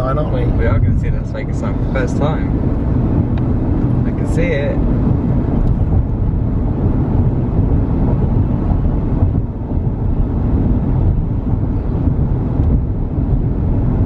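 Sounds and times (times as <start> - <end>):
car cabin road noise: 0.0 - 14.0.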